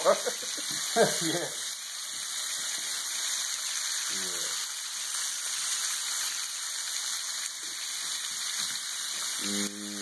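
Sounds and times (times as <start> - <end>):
bacon sizzling in a frying pan: 0.0 - 10.0.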